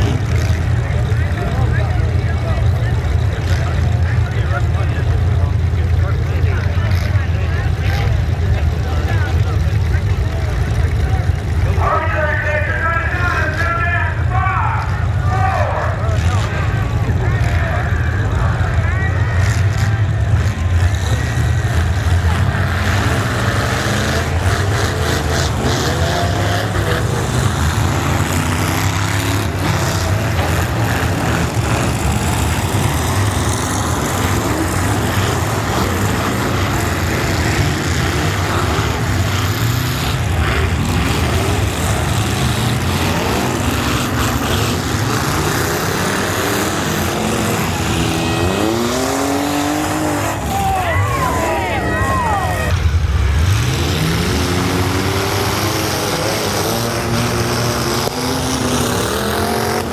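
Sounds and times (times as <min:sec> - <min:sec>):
truck engines rumbling: 0:00.0 - 0:59.9.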